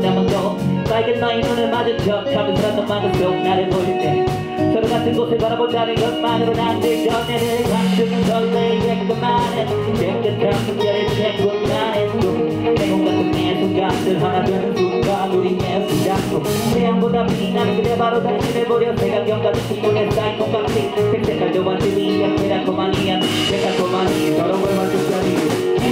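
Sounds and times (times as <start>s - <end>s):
live rock band playing: 0.0s - 25.9s
person rapping: 0.0s - 25.9s.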